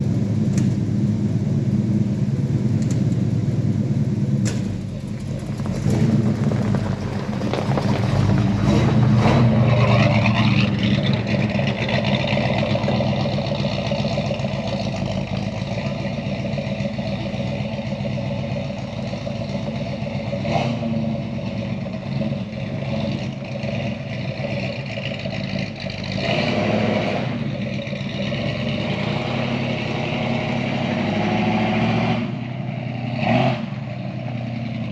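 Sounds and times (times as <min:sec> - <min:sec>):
pickup truck engine running: 0:00.0 - 0:31.2.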